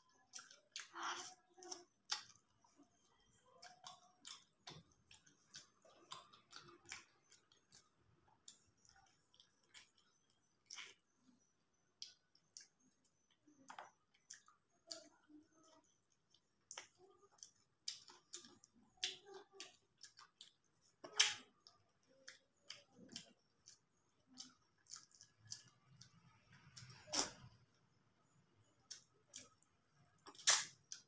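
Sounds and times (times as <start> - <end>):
chewing and lip smacking: 0.1 - 27.7, 28.6 - 31.0.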